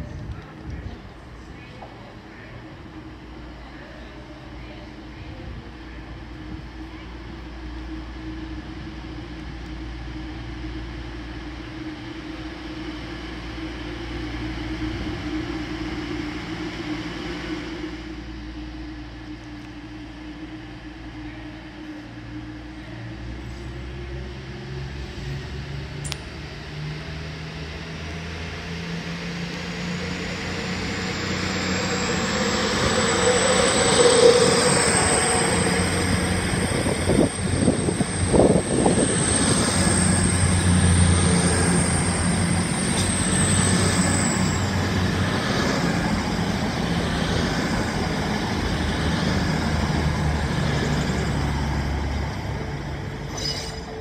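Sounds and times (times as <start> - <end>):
diesel train passing: 0.0 - 54.0
high whine: 0.0 - 54.0.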